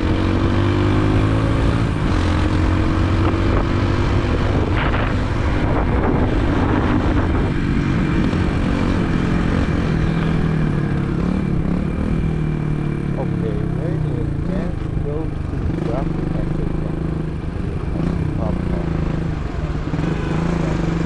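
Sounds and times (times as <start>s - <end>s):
motorbike engine running: 0.0s - 21.0s
road and air noise: 0.0s - 21.0s.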